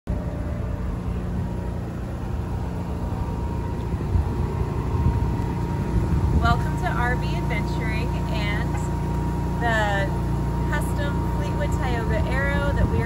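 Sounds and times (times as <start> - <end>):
faint constant whine: 0.1 - 13.0
low engine hum: 0.1 - 13.0.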